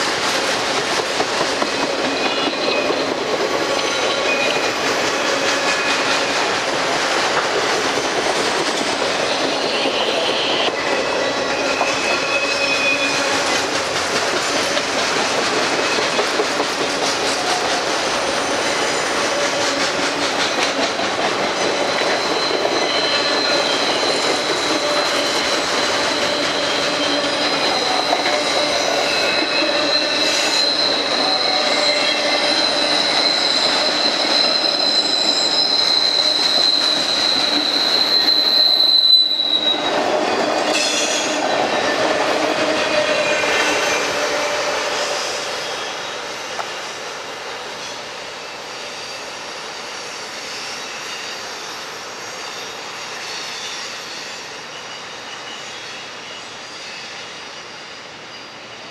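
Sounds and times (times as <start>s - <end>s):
freight train rolling: 0.0s - 58.9s
train wheel squeal: 0.0s - 58.9s.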